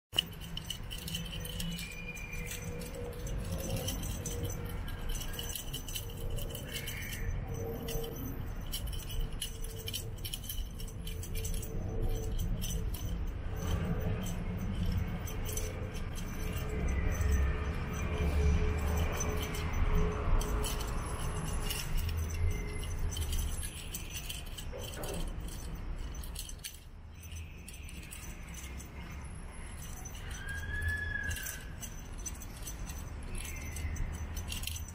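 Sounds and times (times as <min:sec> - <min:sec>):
light jingling rattling: 0:00.0 - 0:34.9.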